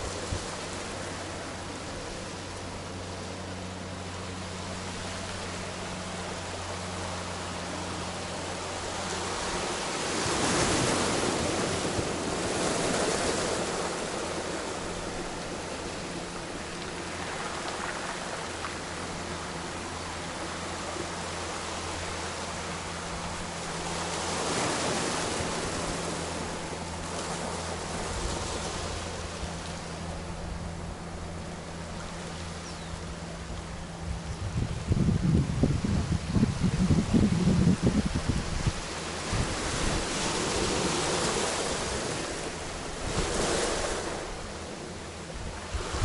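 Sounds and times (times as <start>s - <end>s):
waves washing on pebble beach: 0.0s - 30.0s, 37.8s - 46.0s
low steady hum: 0.0s - 46.0s.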